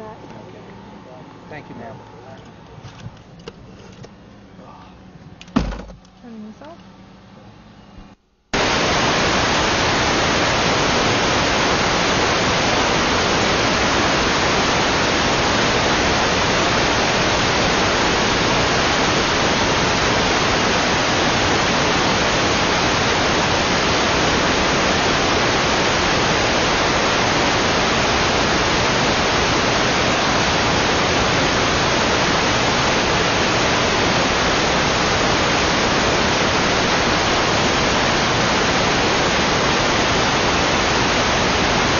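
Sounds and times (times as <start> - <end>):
loud white-noise static: 0.0 - 41.9.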